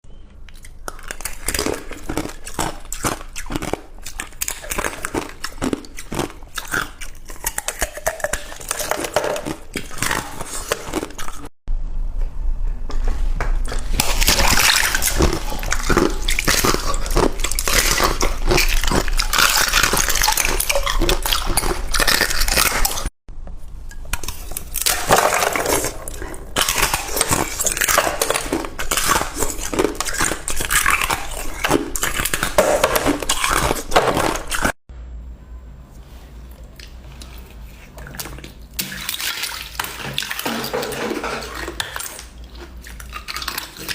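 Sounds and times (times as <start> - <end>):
chewing crushed ice: 0.5 - 11.5, 13.7 - 23.1, 24.0 - 34.8, 39.6 - 43.9.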